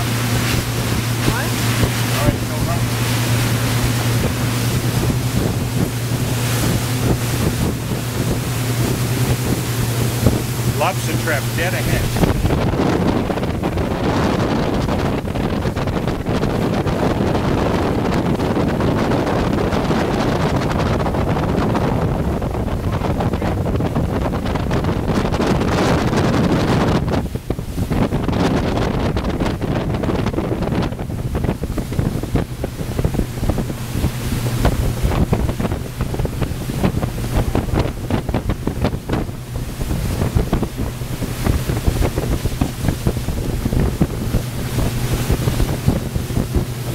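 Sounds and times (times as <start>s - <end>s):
boat engine drone: 0.0s - 46.9s
rushing water: 0.0s - 46.9s
wind buffeting microphone: 0.0s - 46.9s.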